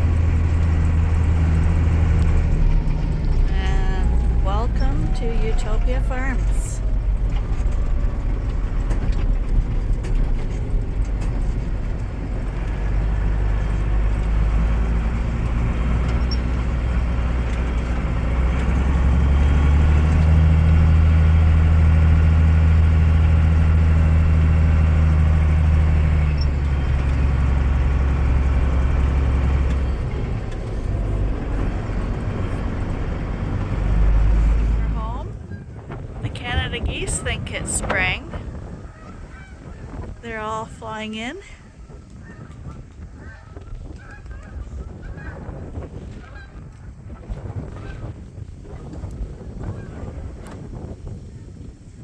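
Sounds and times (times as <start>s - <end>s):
vehicle engine droning while driving: 0.0s - 52.0s.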